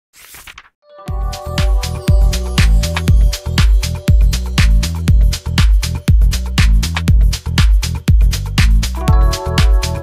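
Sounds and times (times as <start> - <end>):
electronic dance music: 1.1 - 10.0.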